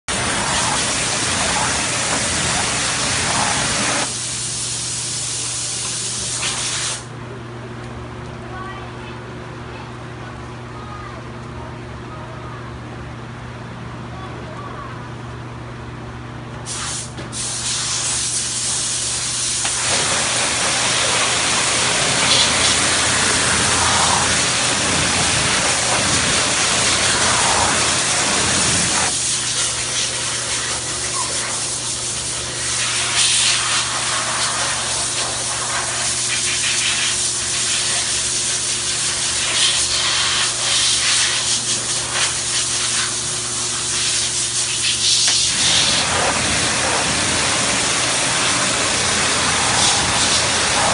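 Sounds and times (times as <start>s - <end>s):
water spray hissing on car: 0.1s - 7.1s, 16.7s - 50.9s.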